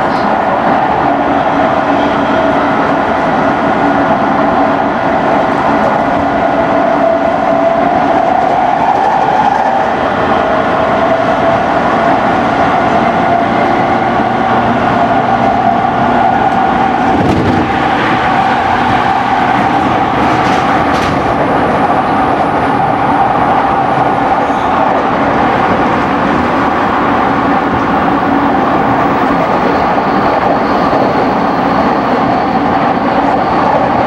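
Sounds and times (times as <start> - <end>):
wheel and rail rumble: 0.0 - 34.0.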